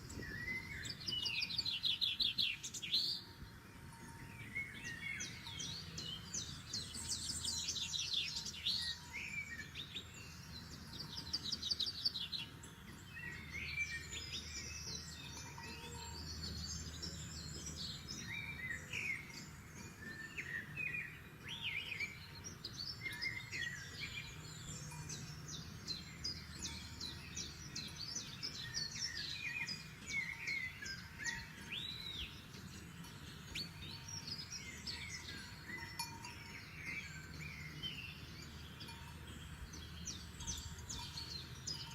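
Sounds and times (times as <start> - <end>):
forest birds singing: 0.0 - 41.9.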